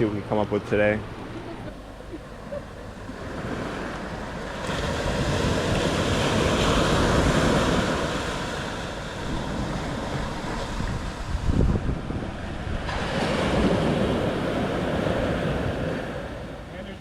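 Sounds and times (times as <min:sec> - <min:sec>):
ocean surf washing ashore: 0:00.0 - 0:17.0
wind rumbling on microphone: 0:01.0 - 0:16.7.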